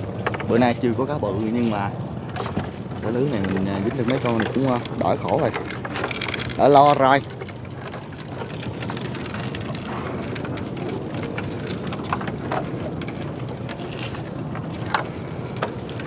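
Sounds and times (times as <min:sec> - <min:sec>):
small boat engine running: 0:00.0 - 0:16.0
water noise: 0:00.0 - 0:16.0.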